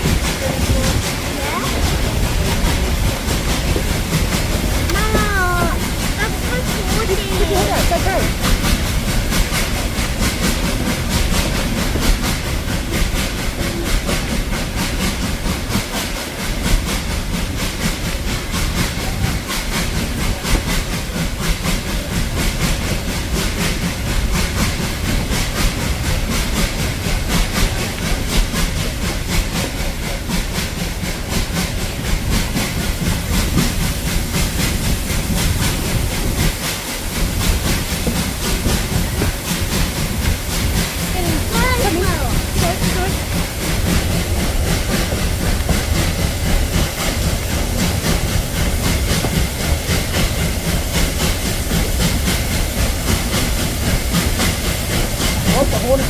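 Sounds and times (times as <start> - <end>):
train running with hiss: 0.0 - 56.0.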